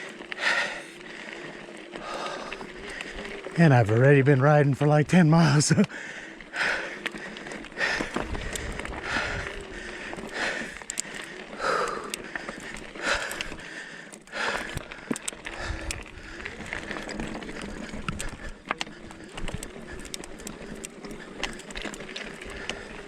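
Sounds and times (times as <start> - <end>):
person breathing hard: 0.0 - 3.6, 5.8 - 23.0
bike clicking and rattling: 0.0 - 23.0.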